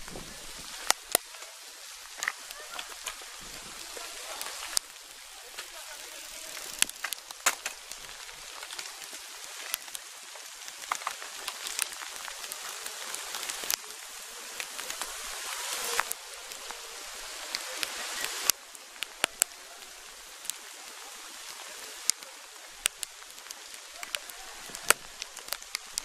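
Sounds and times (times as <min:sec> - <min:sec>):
sharp crackles and clicks: 0:00.0 - 0:26.0
steady hiss: 0:00.0 - 0:26.0.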